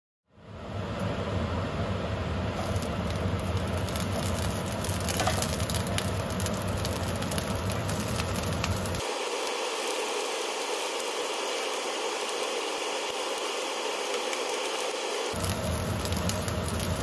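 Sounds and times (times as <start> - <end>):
oil sizzling in grill pan: 2.6 - 17.0.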